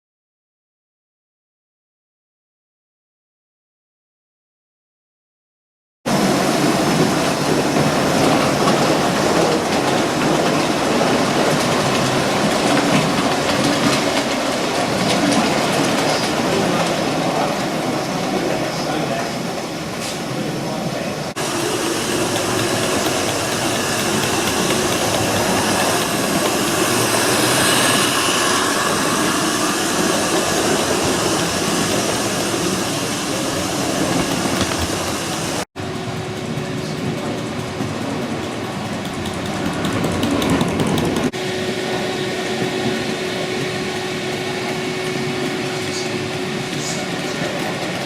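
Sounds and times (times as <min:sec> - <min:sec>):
model trains running on track: 0:06.1 - 0:48.0.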